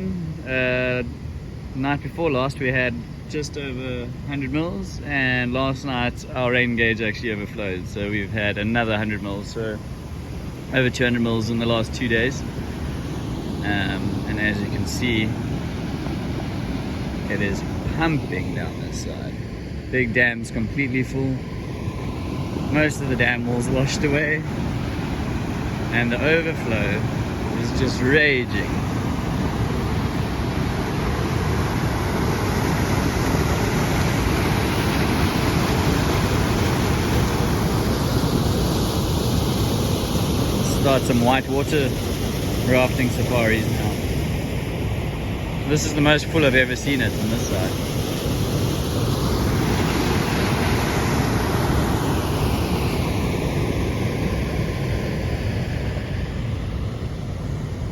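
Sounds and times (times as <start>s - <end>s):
water roaring over dam overflow: 0.0s - 57.9s.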